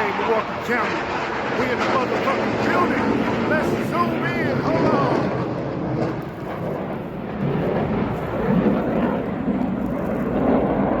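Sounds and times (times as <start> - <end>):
jet aircraft rumbling overhead: 0.0 - 11.0.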